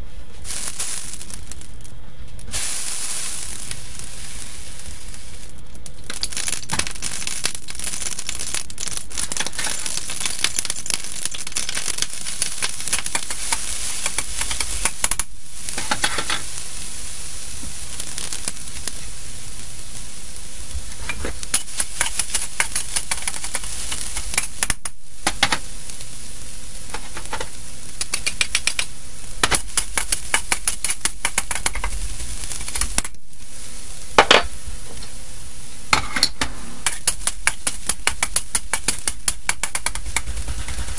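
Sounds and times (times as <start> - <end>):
oil and garlic sizzling in wok: 0.0 - 40.9.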